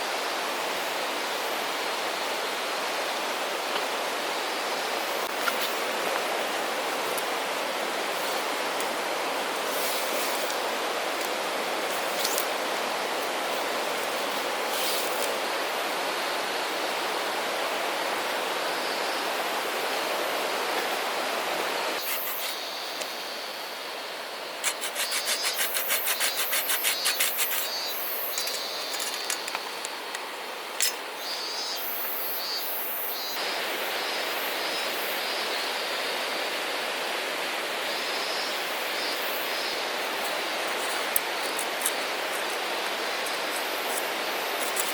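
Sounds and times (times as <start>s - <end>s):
steady outdoor hiss: 0.0s - 44.9s.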